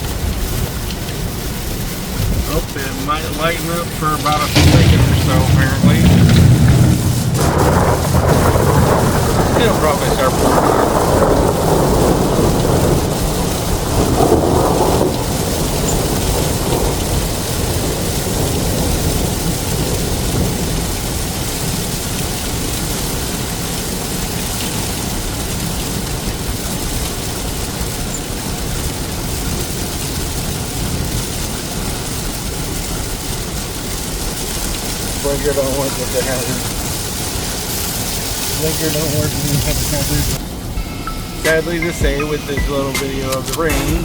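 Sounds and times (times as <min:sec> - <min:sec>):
heavy rain on vehicle: 0:00.0 - 0:44.0
road noise: 0:00.0 - 0:44.0.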